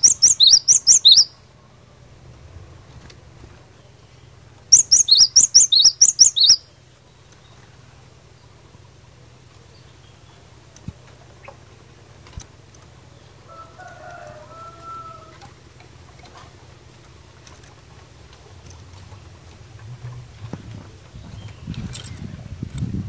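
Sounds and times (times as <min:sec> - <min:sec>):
drawn-out bird call: 0:00.0 - 0:01.9, 0:03.6 - 0:22.3
low steady hum: 0:00.0 - 0:23.0.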